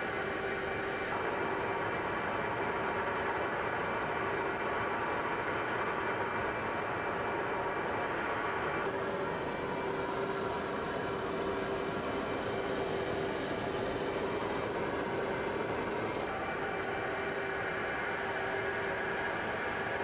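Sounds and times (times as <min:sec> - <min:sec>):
aircraft engines droning in flight: 0:00.0 - 0:20.0.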